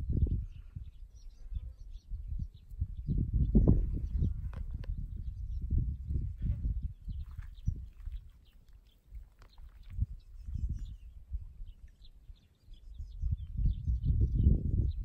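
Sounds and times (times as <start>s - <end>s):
small birds chirping: 0.0s - 15.0s
wind gusting on microphone: 0.0s - 15.0s.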